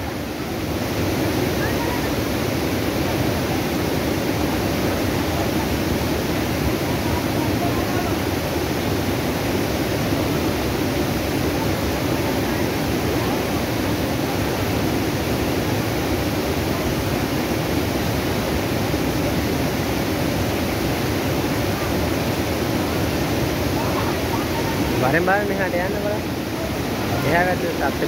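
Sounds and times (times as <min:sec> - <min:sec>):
water rushing over spillway: 0:00.0 - 0:28.0.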